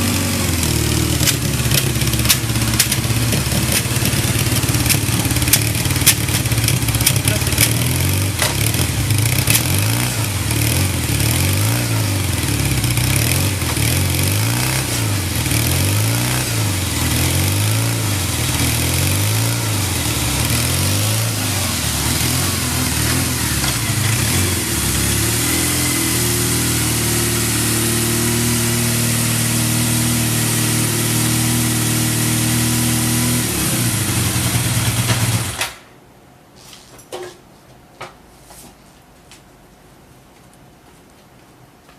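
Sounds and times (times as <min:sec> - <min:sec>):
motorcycle engine revving and idling: 0:00.0 - 0:35.8.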